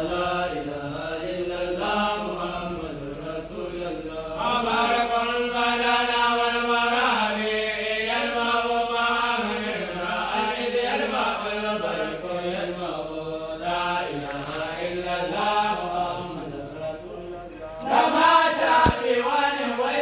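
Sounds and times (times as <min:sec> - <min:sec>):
men chanting in unison: 0:00.0 - 0:14.2, 0:14.9 - 0:20.0.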